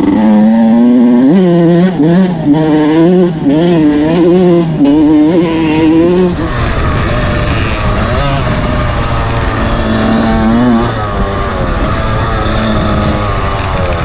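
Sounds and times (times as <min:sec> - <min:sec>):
two-stroke dirt bike engine revving: 0:00.0 - 0:14.0.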